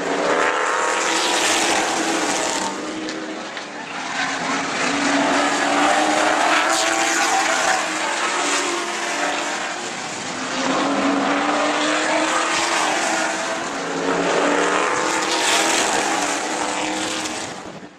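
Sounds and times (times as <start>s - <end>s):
racing car engines: 0.0s - 17.9s.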